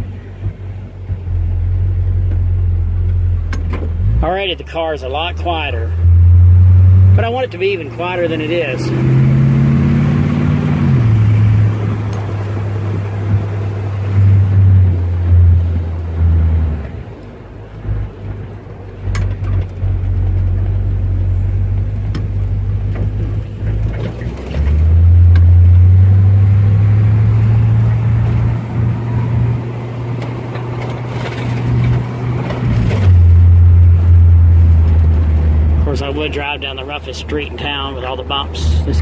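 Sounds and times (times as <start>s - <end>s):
car engine and road drone: 0.0s - 39.0s.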